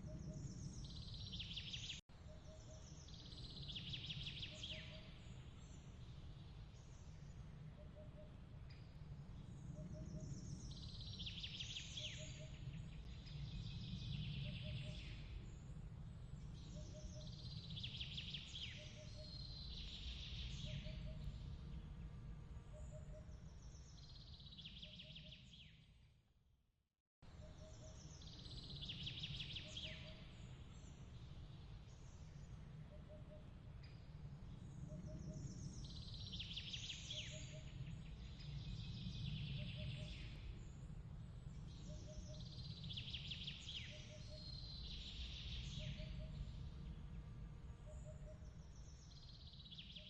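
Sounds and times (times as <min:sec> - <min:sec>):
songbird trills: 0:00.0 - 0:15.8, 0:16.4 - 0:21.7, 0:22.7 - 0:25.8, 0:27.3 - 0:40.9, 0:41.5 - 0:47.0, 0:47.8 - 0:50.0.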